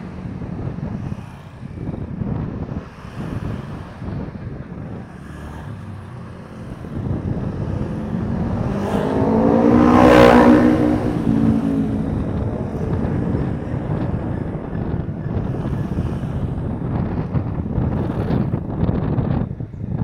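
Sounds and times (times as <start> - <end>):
vehicle passing by: 0.0 - 19.5
wind noise on microphone: 0.0 - 20.0.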